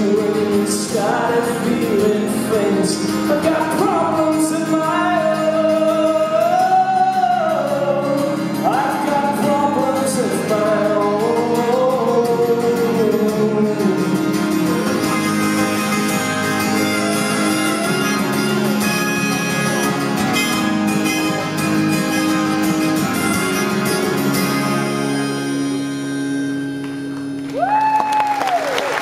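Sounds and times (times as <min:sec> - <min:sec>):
acoustic guitar: 0:00.0 - 0:28.5.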